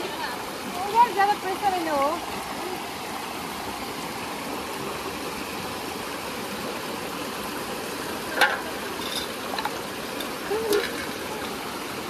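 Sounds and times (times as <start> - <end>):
stream water splashing over stones: 0.0 - 12.0.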